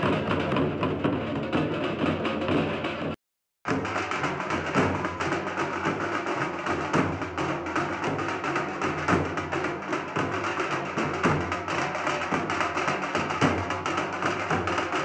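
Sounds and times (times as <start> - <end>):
drums playing fast rhythm: 0.0 - 15.0.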